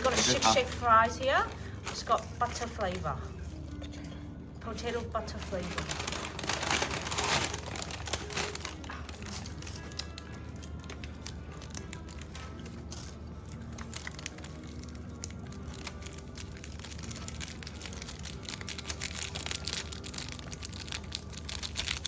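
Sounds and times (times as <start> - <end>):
paper bag crinkling: 0.0 - 3.8, 5.0 - 22.0
faint background music: 0.0 - 22.0.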